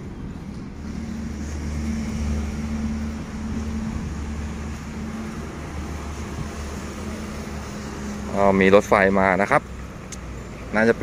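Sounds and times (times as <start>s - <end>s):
low engine drone: 0.0s - 10.7s.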